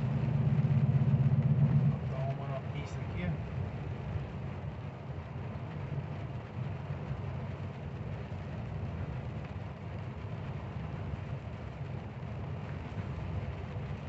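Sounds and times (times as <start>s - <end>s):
truck engine drone: 0.0s - 14.0s
wet road noise: 0.0s - 14.0s.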